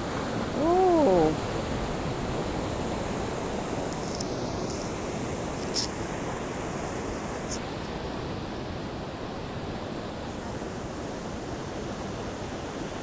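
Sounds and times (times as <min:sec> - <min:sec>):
ocean surf breaking on shore: 0:00.0 - 0:13.0.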